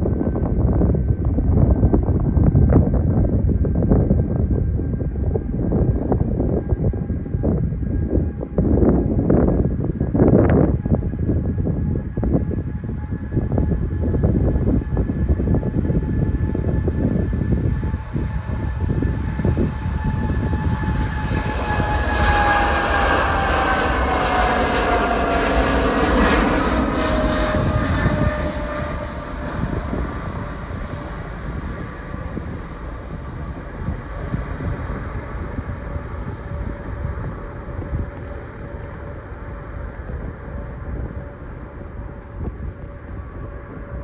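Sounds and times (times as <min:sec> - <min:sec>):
jet airliner taking off: 0:00.0 - 0:44.0.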